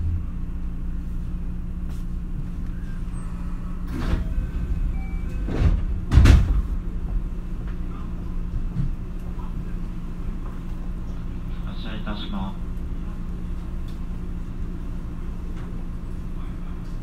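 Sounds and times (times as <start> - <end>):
train interior hum: 0.0 - 17.0.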